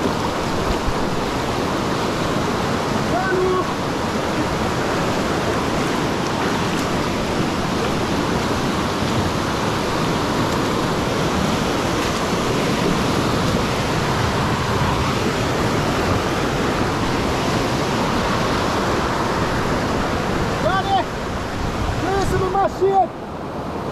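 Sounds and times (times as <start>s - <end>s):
river rushing over rocks: 0.0s - 23.9s.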